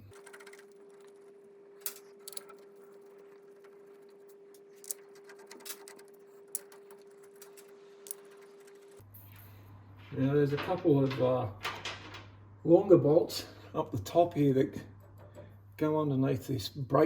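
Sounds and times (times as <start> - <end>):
steady hum: 0.0 - 16.8.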